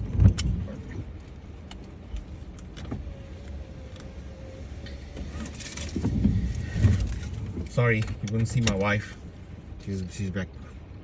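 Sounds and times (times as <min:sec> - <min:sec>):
low cabin rumble: 0:00.0 - 0:11.0.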